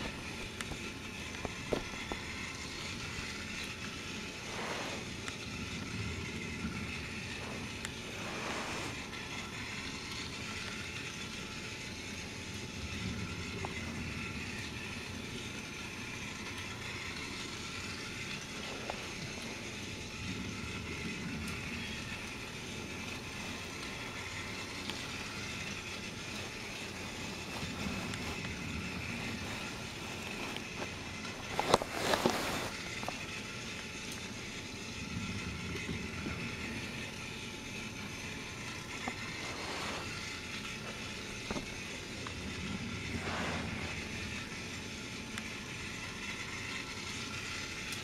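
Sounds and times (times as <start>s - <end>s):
toy train motor whirring: 0.0s - 48.0s.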